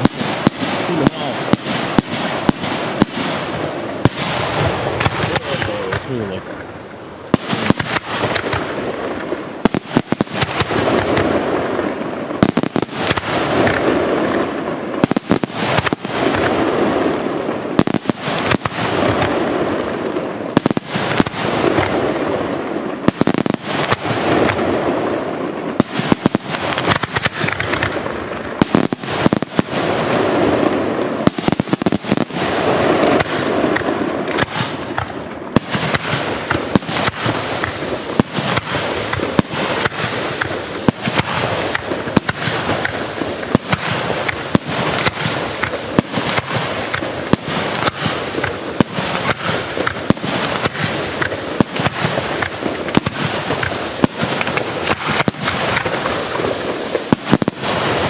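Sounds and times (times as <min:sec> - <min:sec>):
firework shells bursting: 0:00.0 - 0:25.0, 0:25.6 - 0:58.0
firework crackling: 0:00.0 - 0:58.0.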